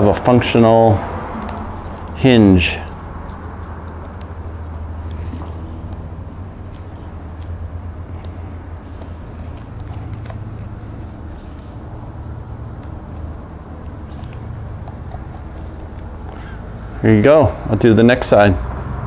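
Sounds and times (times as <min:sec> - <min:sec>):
high-pitched whine: 0:00.0 - 0:19.0
steady low hum: 0:00.0 - 0:19.0
light handling ticks: 0:01.4 - 0:17.1.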